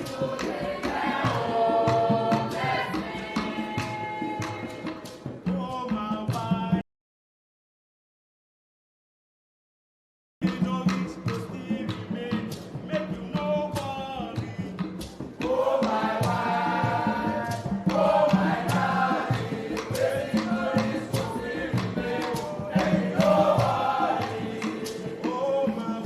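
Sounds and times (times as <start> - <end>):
percussion beat: 0.0 - 6.8, 10.4 - 26.0
singing voices: 0.0 - 6.8, 10.4 - 26.0.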